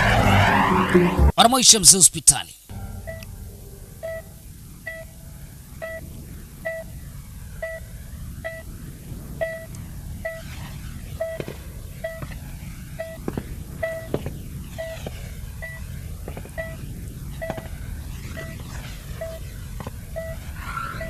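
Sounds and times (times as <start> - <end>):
low steady rumble: 2.6 - 21.0
heart monitor beeping: 2.7 - 8.7, 9.3 - 10.5, 11.1 - 21.0.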